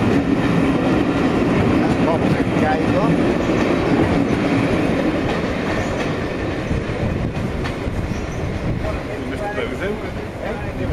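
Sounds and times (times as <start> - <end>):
train wheels rumbling over rails: 0.0 - 10.9.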